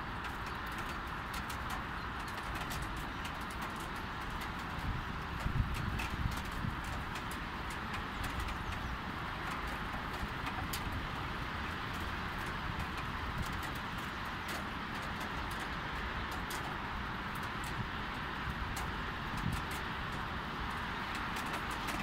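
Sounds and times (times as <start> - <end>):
distant traffic rumble: 0.0 - 22.0
raindrops ticking: 0.0 - 22.0.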